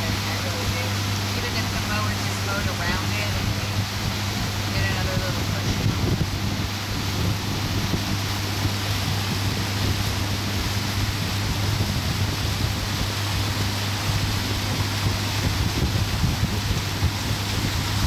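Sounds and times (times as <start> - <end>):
outboard motor humming: 0.0 - 18.0
rushing water: 0.0 - 18.0
wind on microphone: 0.0 - 18.0.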